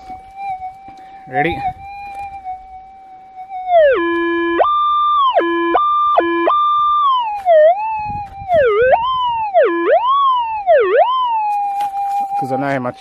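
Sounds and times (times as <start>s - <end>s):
metal detector tone: 0.0s - 13.0s.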